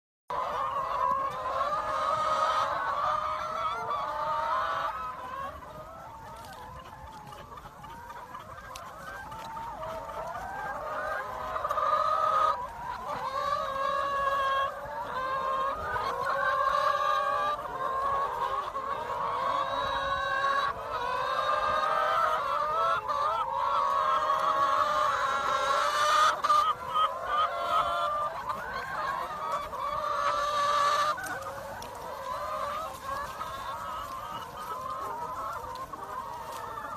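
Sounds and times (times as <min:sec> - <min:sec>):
hens clucking: 0:00.3 - 0:36.9.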